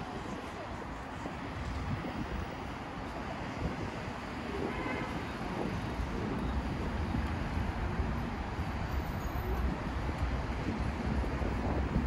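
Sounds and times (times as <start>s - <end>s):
low city rumble: 0.0s - 12.0s
wind buffeting microphone: 0.0s - 12.0s.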